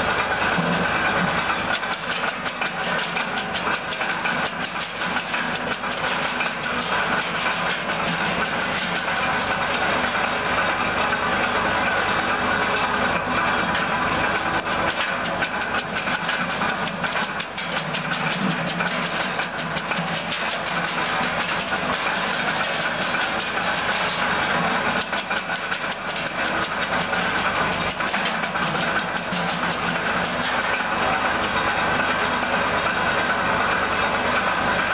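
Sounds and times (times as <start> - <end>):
tractor engine running: 0.0 - 34.9
wood chipper cutting branches: 0.0 - 34.9.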